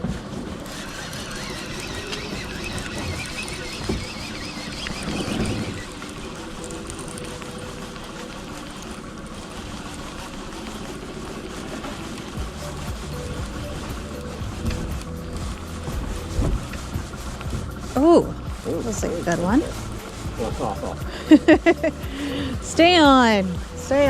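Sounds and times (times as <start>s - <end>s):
boat motor running: 0.0s - 24.0s
water noise: 0.0s - 24.0s
wind: 0.0s - 24.0s.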